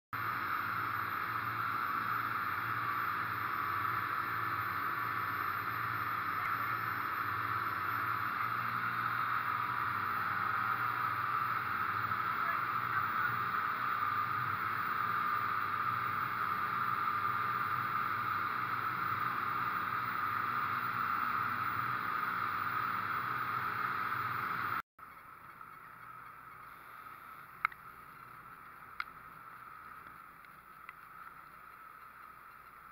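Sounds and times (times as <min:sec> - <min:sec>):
boat engine drone: 0:00.2 - 0:32.9
churning wake water: 0:00.2 - 0:32.9.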